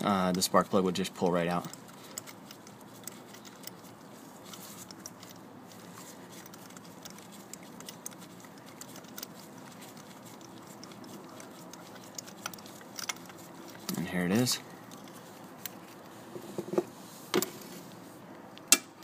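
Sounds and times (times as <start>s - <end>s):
ratchet clicking and scraping: 0.0s - 16.2s.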